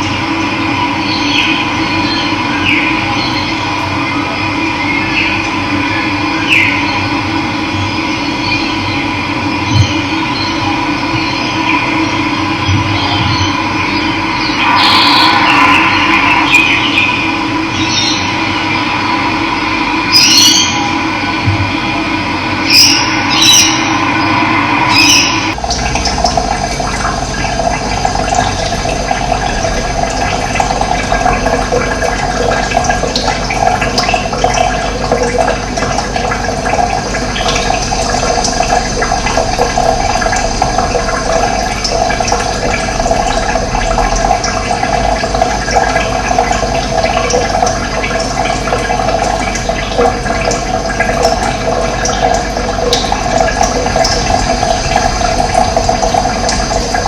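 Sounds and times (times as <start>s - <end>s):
running water flowing: 0.0s - 57.0s.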